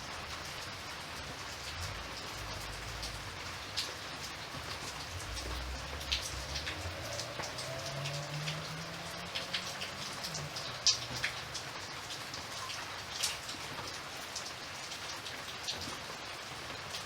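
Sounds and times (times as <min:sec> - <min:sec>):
raindrops tapping sharply: 0:00.0 - 0:17.0
steady rain falling: 0:00.0 - 0:17.0.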